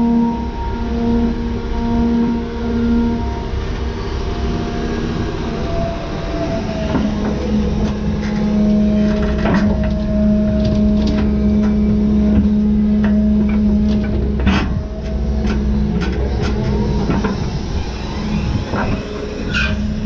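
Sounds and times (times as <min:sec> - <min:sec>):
excavator engine and hydraulics humming: 0:00.0 - 0:20.0.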